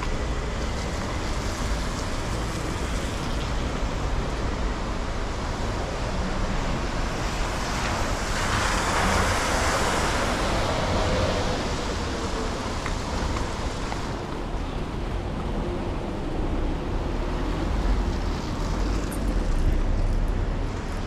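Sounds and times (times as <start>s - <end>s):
passing vehicles: 0.0s - 21.0s
wind rumble on microphone: 0.0s - 21.0s.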